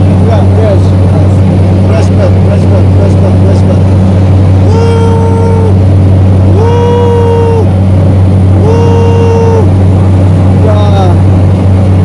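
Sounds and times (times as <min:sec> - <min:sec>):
propeller plane engine drone: 0:00.0 - 0:12.0
steady tone: 0:00.0 - 0:12.0.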